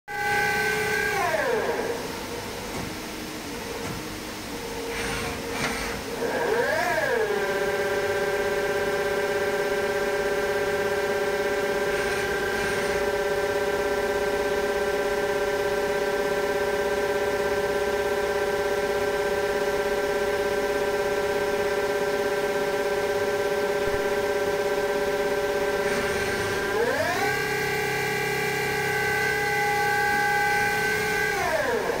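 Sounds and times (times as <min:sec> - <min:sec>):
lathe spindle drive whining: 0:00.1 - 0:32.0.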